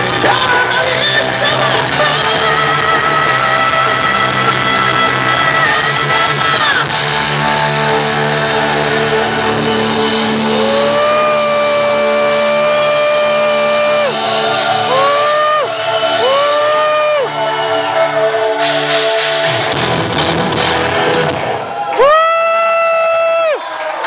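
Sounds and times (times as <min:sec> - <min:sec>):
heavy metal band playing live: 0:00.0 - 0:22.2.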